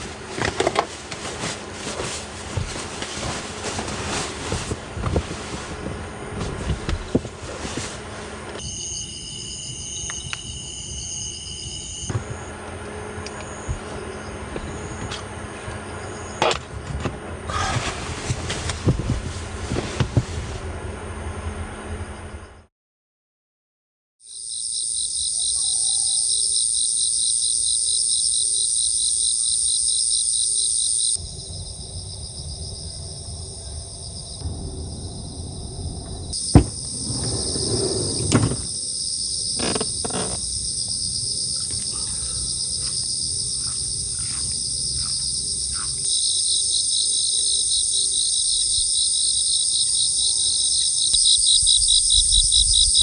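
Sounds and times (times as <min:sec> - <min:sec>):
insects chirping trill: 0:00.0 - 0:16.6, 0:24.2 - 0:53.0.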